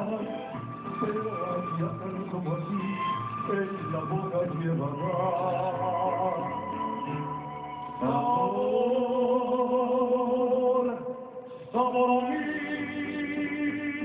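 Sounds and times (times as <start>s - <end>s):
mariachi band on television: 0.0s - 14.0s.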